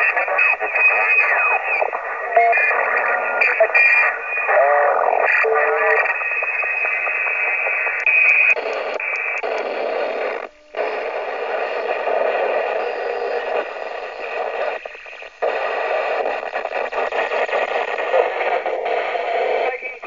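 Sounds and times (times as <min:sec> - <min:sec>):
radio static and hiss: 0:00.0 - 0:20.0.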